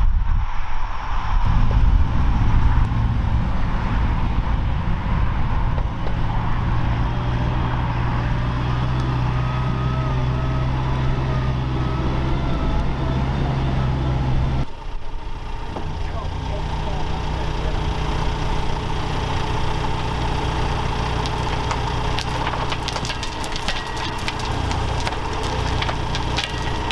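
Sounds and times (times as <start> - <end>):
diesel engines droning: 1.3 - 26.9.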